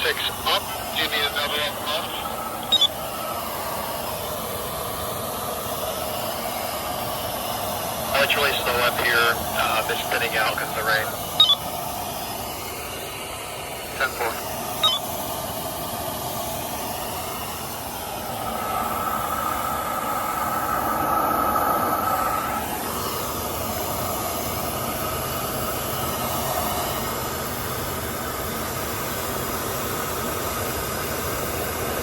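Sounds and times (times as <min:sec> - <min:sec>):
steady hiss: 0:00.0 - 0:27.6.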